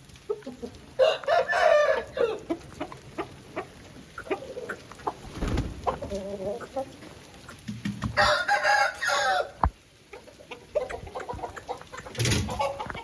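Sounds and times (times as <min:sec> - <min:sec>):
chickens clucking: 0:00.3 - 0:13.0.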